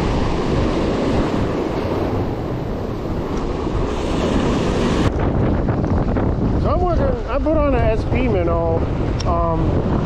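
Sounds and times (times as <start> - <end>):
surf washing against rocks: 0.0 - 10.0
wind buffeting microphone: 0.0 - 10.0.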